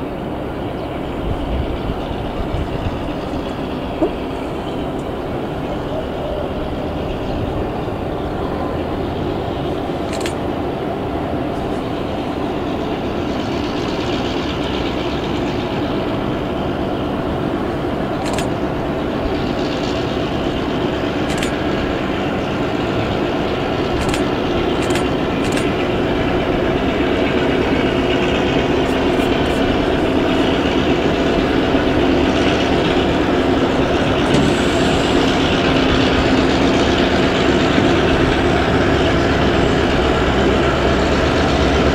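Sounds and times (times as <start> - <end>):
distant locomotive engine humming: 0.0 - 41.9.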